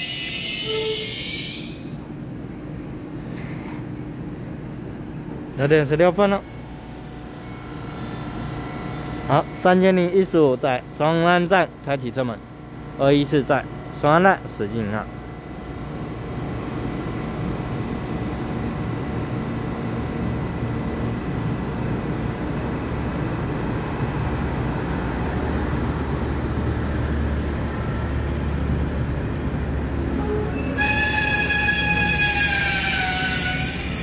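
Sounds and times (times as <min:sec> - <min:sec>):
train engine and wheel rumble: 0:00.0 - 0:34.0.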